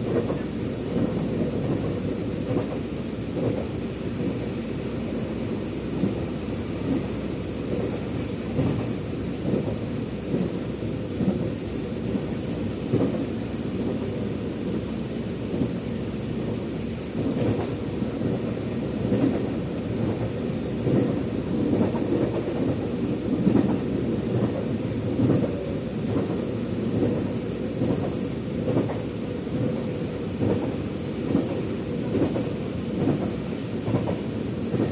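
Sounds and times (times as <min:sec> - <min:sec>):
light rail clack: 0:00.0 - 0:34.9
train wheels rumbling on track: 0:00.0 - 0:34.9.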